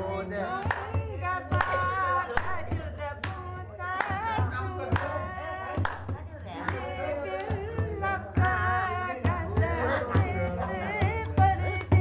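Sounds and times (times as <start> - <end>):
woman singing: 0.0 - 12.0.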